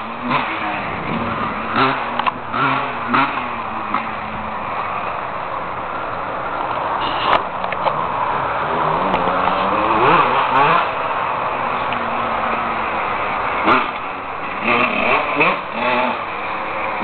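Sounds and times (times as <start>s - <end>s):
motorcycle engine running: 0.0s - 6.2s, 7.0s - 17.0s.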